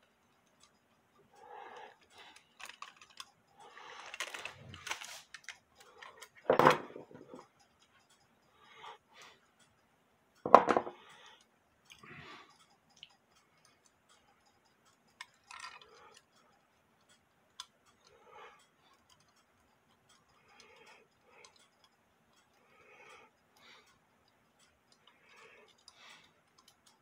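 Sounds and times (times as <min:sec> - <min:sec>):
light metallic clicks and clinks: 0:00.0 - 0:27.0.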